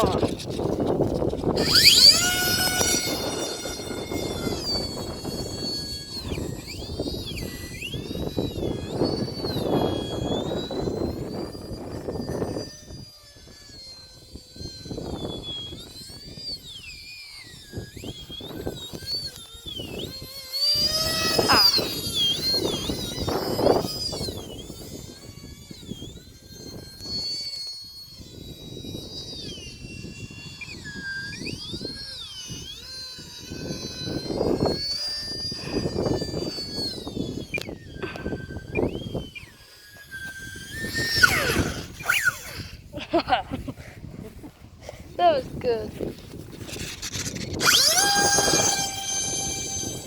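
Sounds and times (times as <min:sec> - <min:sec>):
wind buffeting microphone: 0:00.0 - 0:27.5, 0:28.2 - 0:50.0
model jet fans whining: 0:00.0 - 0:50.0.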